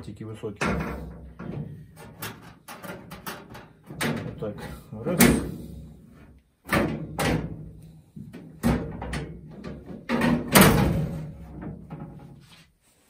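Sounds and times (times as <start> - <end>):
sheet metal knocks and clunks: 0.6 - 4.6, 5.2 - 12.4.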